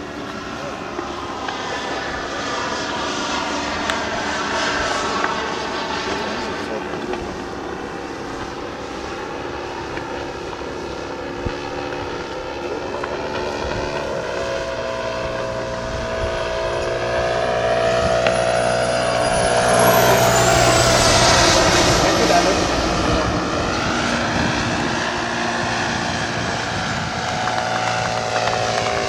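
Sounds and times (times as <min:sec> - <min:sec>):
high motor whine: 0:00.0 - 0:29.0
model airplane propeller droning: 0:00.0 - 0:29.0.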